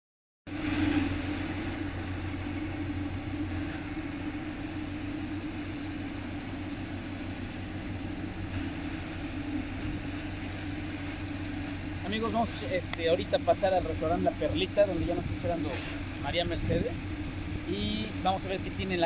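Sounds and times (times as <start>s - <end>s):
motor humming: 0.5s - 19.0s.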